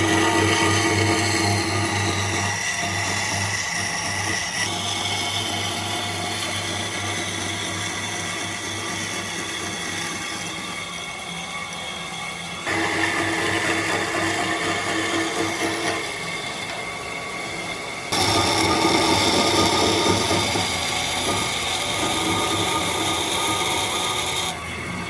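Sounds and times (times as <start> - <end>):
power tool working wood: 0.0 - 25.0.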